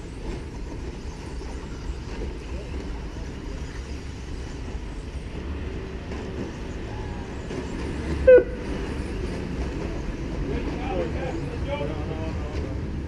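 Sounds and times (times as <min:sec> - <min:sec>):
model trucks whining: 0:01.5 - 0:13.0.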